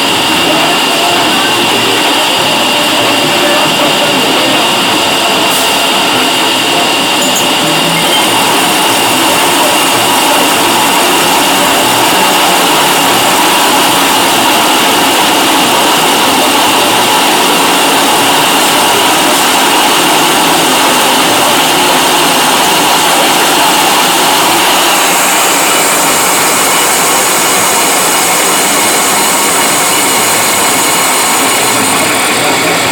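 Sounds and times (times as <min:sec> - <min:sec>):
high whine: 0:00.0 - 0:32.9
milling machine cutting metal: 0:00.0 - 0:32.9.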